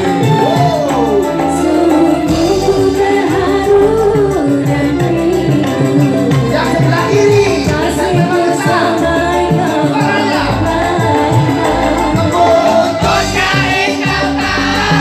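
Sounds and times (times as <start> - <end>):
live band music over pa: 0.0 - 15.0
woman singing: 0.0 - 15.0.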